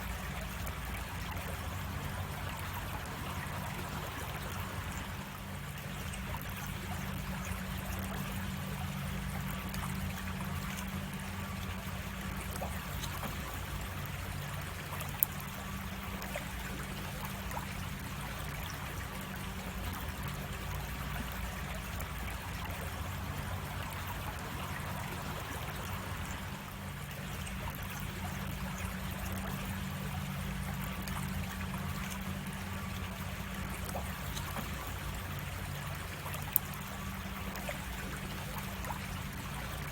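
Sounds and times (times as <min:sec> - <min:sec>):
creek water splashing over rocks: 0:00.0 - 0:39.9.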